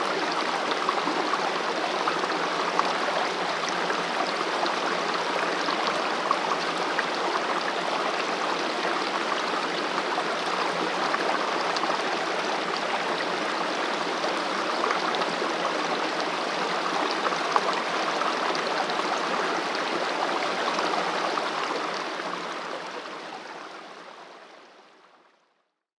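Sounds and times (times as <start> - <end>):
stream flowing: 0.0 - 25.3.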